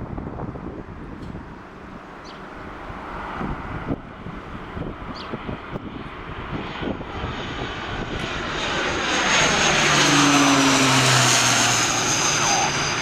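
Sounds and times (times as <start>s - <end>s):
airliner passing overhead: 0.0s - 13.0s.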